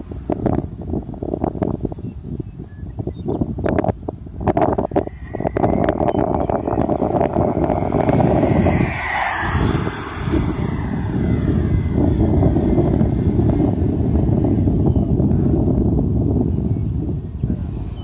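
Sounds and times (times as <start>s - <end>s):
model jet fan whining: 0.0s - 18.0s
wind rumble on microphone: 0.0s - 18.0s.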